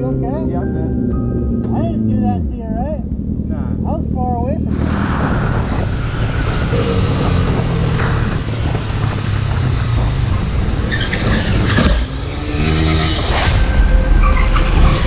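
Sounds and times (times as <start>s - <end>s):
road and traffic noise: 0.0s - 15.0s
vehicle engines running: 0.7s - 15.0s.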